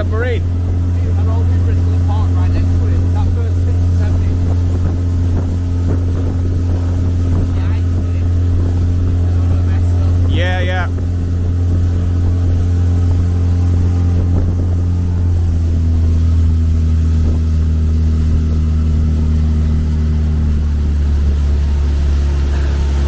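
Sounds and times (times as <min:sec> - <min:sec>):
motorboat engine droning: 0:00.0 - 0:23.0.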